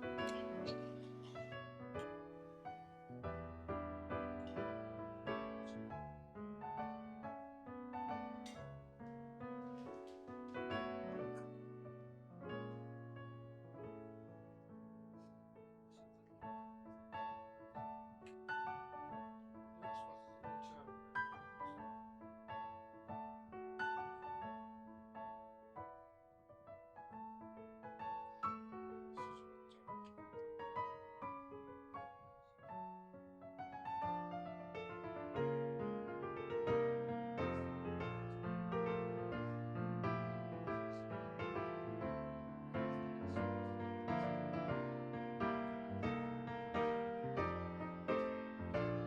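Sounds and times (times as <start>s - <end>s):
gentle piano music: 0.0s - 49.0s.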